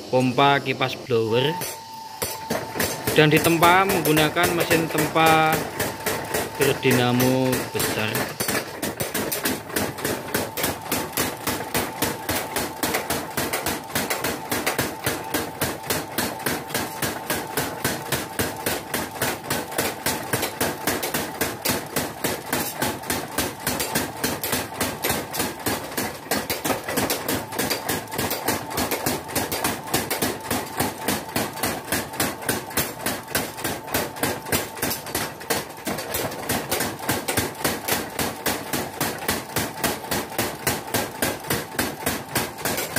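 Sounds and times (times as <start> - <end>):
mechanical forging hammer pounding: 0.0 - 42.9
hand hammer striking anvil: 1.3 - 42.9.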